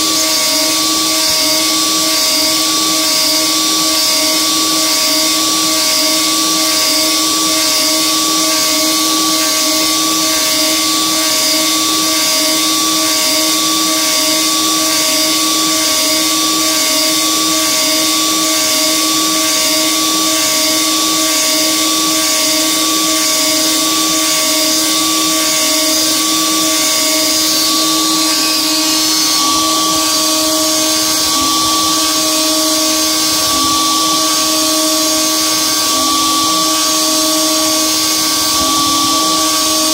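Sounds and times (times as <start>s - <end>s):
router whining cutting metal: 0.0s - 39.9s.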